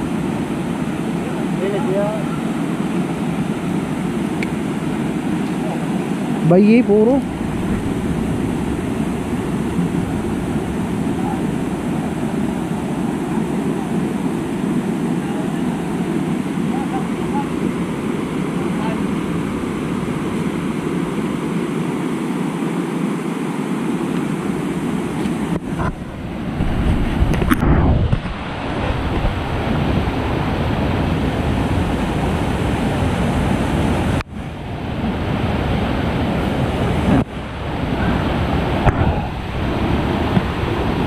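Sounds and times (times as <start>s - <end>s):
wind buffeting microphone: 0.0s - 23.1s, 23.8s - 41.0s
floodwater rushing over rocks: 0.0s - 41.0s.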